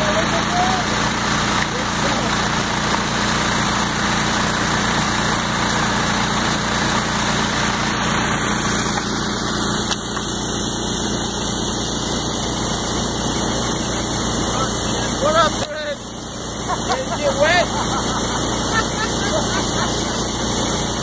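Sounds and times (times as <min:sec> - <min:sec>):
creek water rushing: 0:00.0 - 0:21.0
small gasoline engines running: 0:00.0 - 0:21.0.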